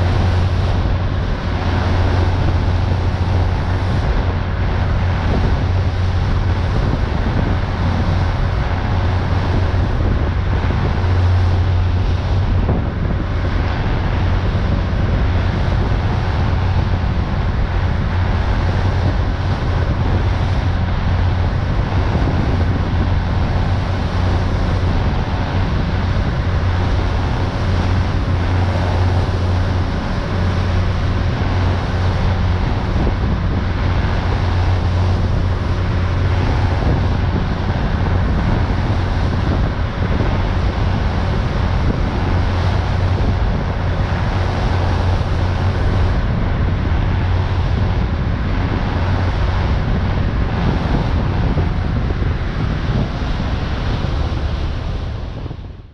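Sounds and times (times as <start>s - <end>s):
boat engine drone: 0.0s - 55.9s
water rushing: 0.0s - 55.9s
wind buffeting microphone: 0.0s - 55.9s.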